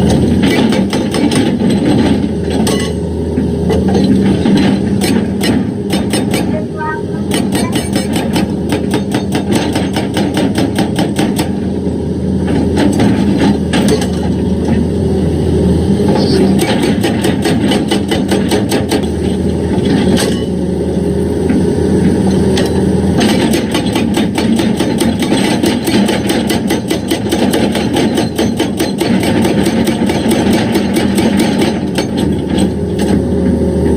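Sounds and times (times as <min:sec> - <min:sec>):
hydraulic rock breaker hammering stone: 0:00.0 - 0:11.8, 0:12.4 - 0:14.9, 0:16.0 - 0:20.6, 0:22.2 - 0:33.9
excavator diesel engine running: 0:00.0 - 0:33.9.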